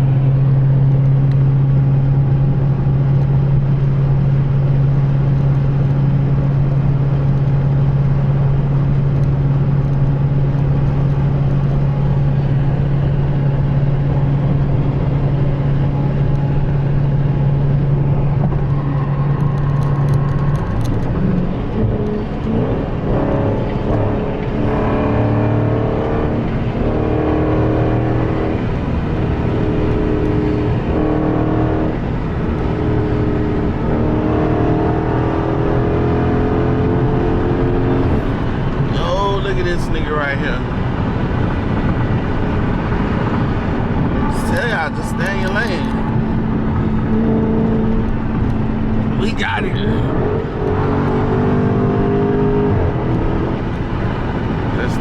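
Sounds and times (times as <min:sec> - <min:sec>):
car engine droning and revving: 0:00.0 - 0:55.0.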